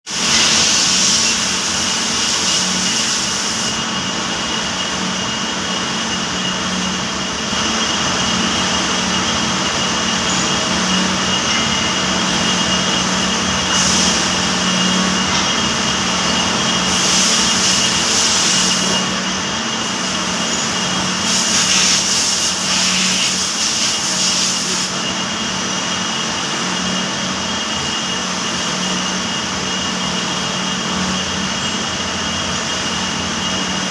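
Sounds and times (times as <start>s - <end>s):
machine hiss: 0.1s - 5.3s, 11.2s - 33.9s
machine hum and whine: 0.1s - 33.9s.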